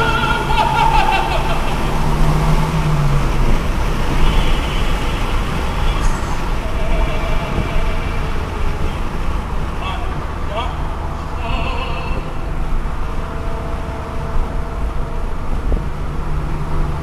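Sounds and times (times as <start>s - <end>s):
engine low hum: 0.0s - 17.0s
road and tyre noise: 0.0s - 17.0s
wind rushing over microphone: 0.0s - 17.0s.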